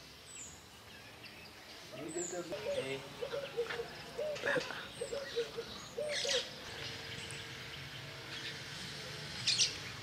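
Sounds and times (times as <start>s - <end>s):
bird calls: 0.3s - 8.7s, 9.4s - 10.0s.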